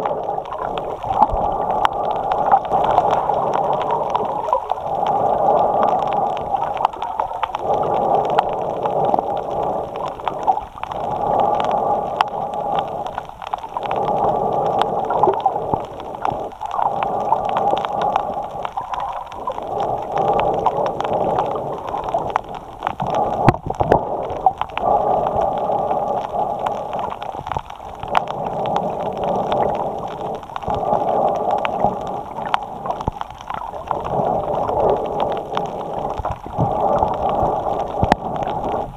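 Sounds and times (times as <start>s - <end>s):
breathing through snorkel: 0.0s - 38.9s
faint clicks: 0.0s - 38.9s.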